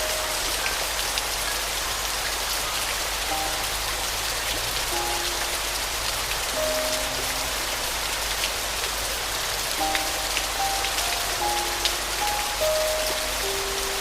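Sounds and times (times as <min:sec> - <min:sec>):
soft piano notes: 0:00.0 - 0:01.6, 0:03.2 - 0:14.0
steady rain falling: 0:00.0 - 0:14.0.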